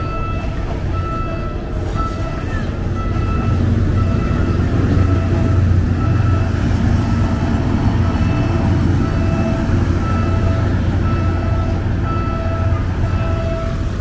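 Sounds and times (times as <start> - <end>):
diesel train rumbling past: 0.0 - 14.0.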